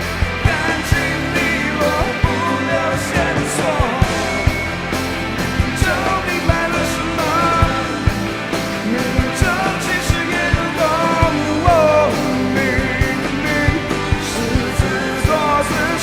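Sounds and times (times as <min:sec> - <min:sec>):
drums beat: 0:00.0 - 0:16.0
guitar lead line bending pitch: 0:00.0 - 0:16.0
rock band playing: 0:00.0 - 0:16.0.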